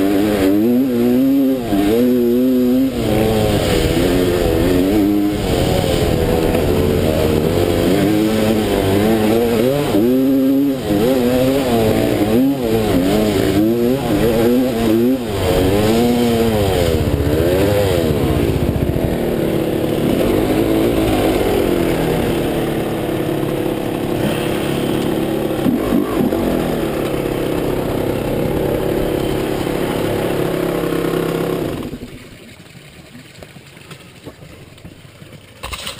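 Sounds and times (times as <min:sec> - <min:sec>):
dirt bike engine revving: 0:00.0 - 0:32.1.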